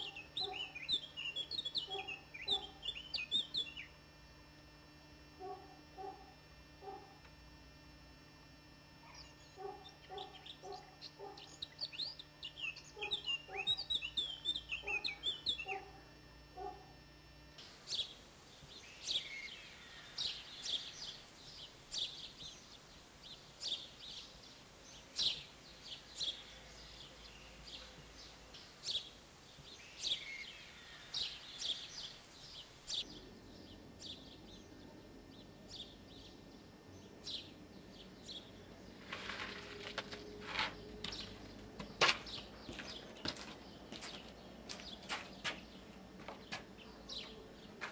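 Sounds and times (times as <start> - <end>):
birds chirping: 0.0 - 4.0, 9.0 - 16.0, 17.8 - 47.9.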